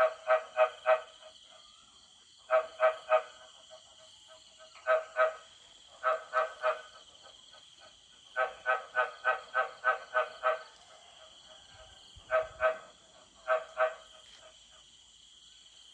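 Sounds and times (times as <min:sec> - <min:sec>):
frogs croaking: 0:00.0 - 0:15.9
night insects droning: 0:00.0 - 0:15.9.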